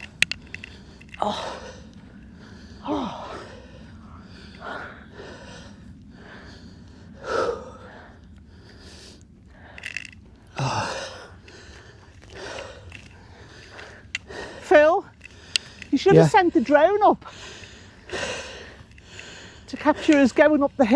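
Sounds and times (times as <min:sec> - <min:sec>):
person breathing heavily: 0:00.0 - 0:16.3, 0:17.2 - 0:20.4.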